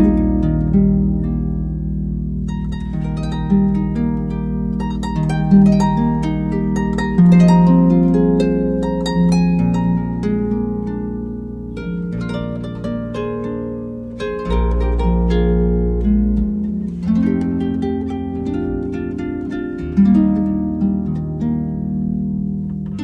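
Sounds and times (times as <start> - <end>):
plucked strings melody: 0.0 - 23.0.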